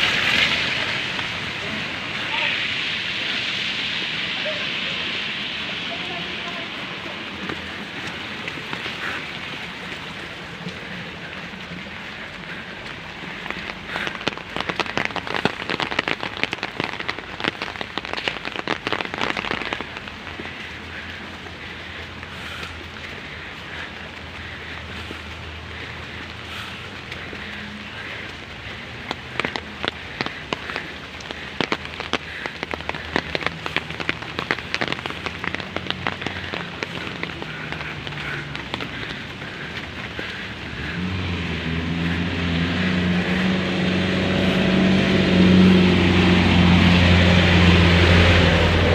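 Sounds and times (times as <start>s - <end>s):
heavy rain hiss: 0.0s - 48.9s.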